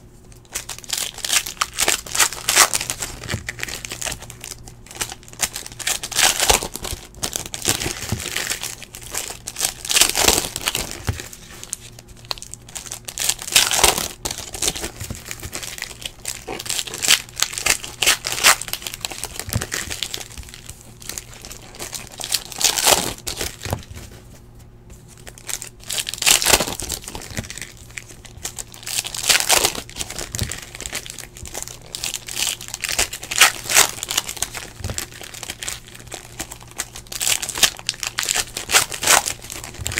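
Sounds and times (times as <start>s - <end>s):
wrappers tearing and crumpling: 0.3s - 24.2s, 25.2s - 39.9s.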